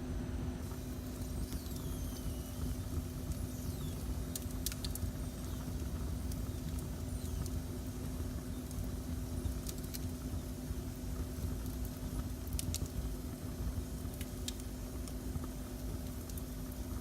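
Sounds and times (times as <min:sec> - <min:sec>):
steady low hum: 0:00.0 - 0:17.0
wood fire burning: 0:00.6 - 0:17.0.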